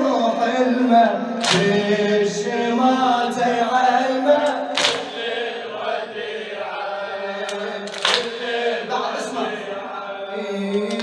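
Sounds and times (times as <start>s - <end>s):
mourners chanting together: 0.0s - 11.0s.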